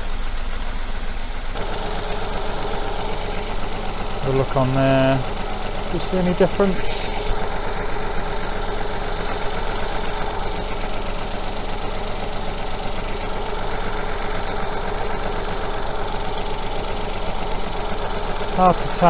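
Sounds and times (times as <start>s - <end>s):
small petrol engine idling: 0.0s - 19.0s.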